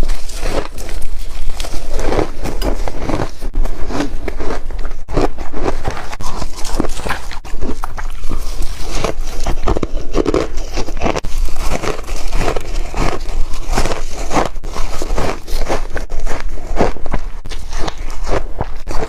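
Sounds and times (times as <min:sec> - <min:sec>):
ice crunching while chewed: 0:00.0 - 0:19.0.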